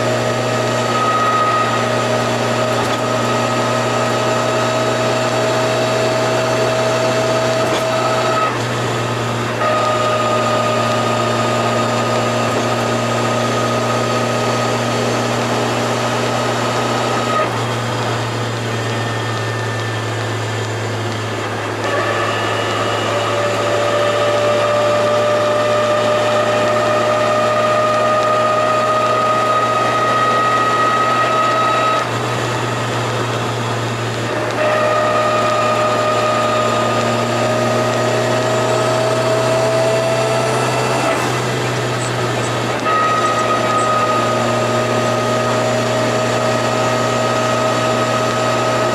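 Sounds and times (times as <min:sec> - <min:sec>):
car engine with turbo whine: 0:00.0 - 0:48.9.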